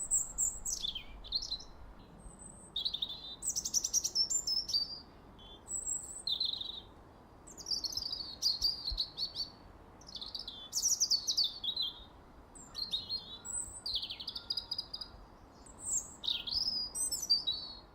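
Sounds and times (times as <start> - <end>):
songbird singing: 0.0 - 17.9.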